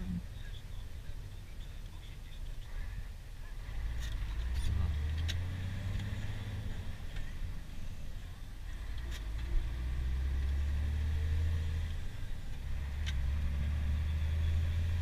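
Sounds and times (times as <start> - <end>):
truck diesel engine drone: 0.0 - 15.0.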